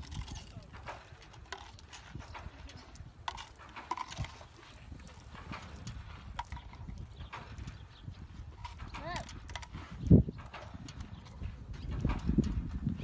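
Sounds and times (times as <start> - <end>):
animal feeding on sandy ground: 0.0 - 13.0
wind rumble on microphone: 0.0 - 13.0.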